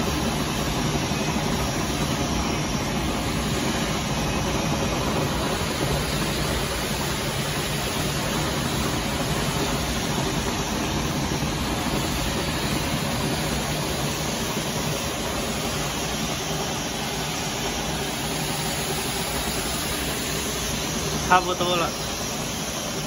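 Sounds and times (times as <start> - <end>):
fans whirring hiss: 0.0 - 23.0.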